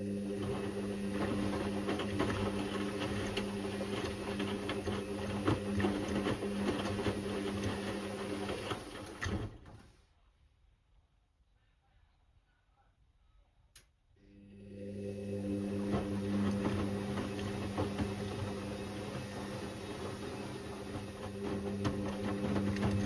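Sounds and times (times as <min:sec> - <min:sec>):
washing machine running: 0:00.0 - 0:09.9, 0:14.2 - 0:23.0.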